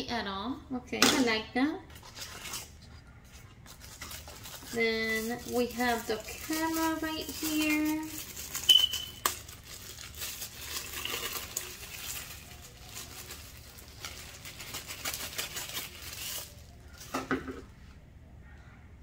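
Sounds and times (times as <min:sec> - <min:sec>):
plastic wrapping crinkling: 0:01.9 - 0:17.7.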